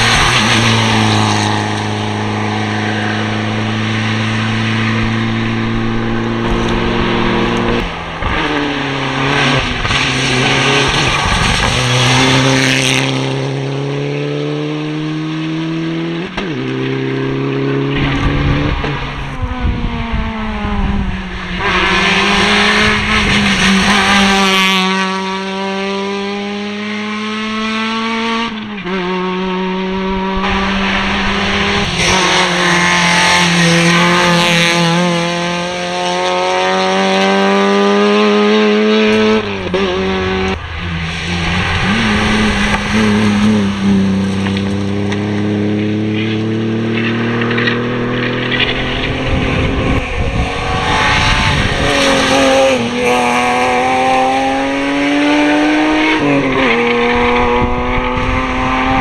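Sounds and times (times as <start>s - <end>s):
rally cars racing past: 0.0s - 59.0s.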